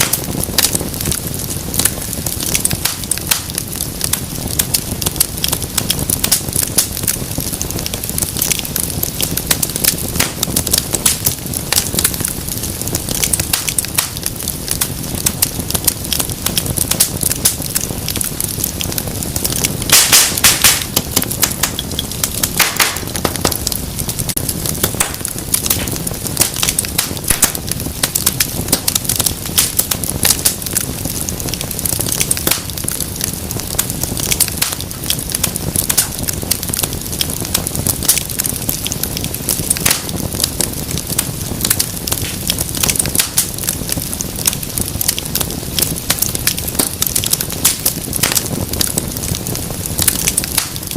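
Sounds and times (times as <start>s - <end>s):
fire hissing: 0.0s - 50.9s
wood fire crackling: 0.0s - 50.9s.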